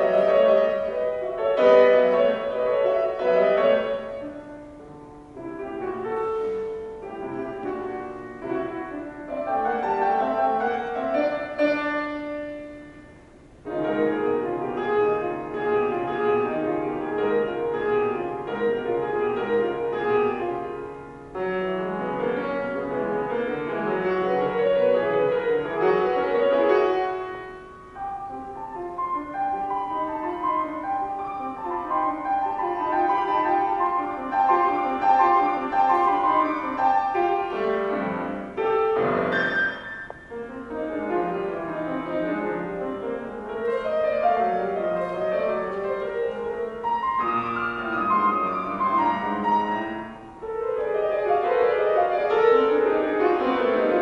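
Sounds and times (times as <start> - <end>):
classical piano playing: 0.0 - 54.0.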